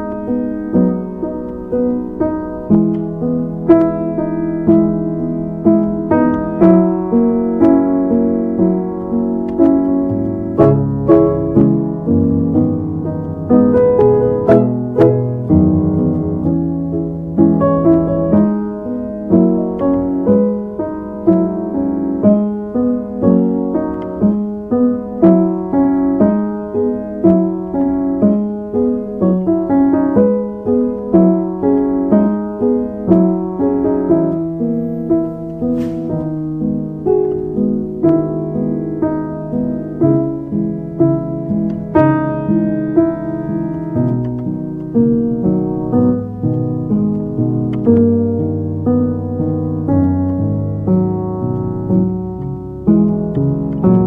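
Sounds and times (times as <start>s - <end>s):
slow solo piano music: 0.0s - 54.0s.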